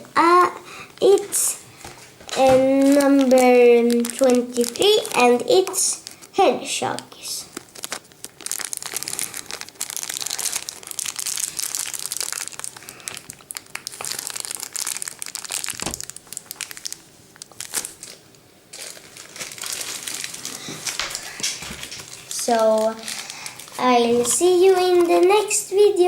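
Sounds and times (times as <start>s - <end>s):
packaging crinkling: 1.0s - 6.4s, 7.0s - 25.6s.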